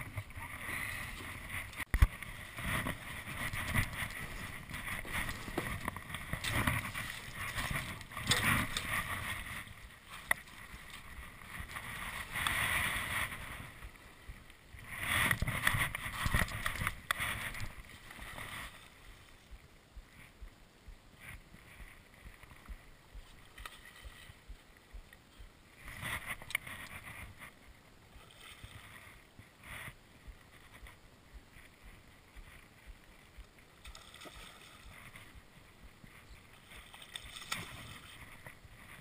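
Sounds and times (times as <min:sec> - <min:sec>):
water splashing around a boat: 0:00.0 - 0:39.0
wind on microphone: 0:00.0 - 0:39.0.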